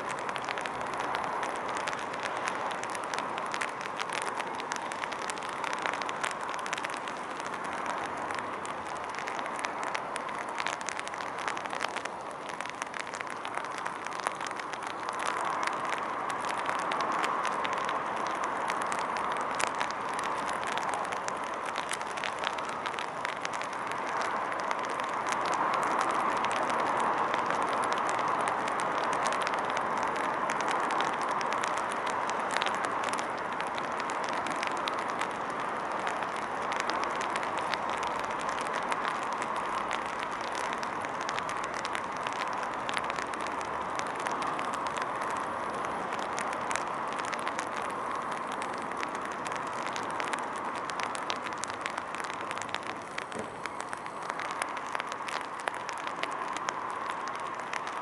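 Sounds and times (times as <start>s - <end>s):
large fire burning and crackling: 0.0s - 58.0s.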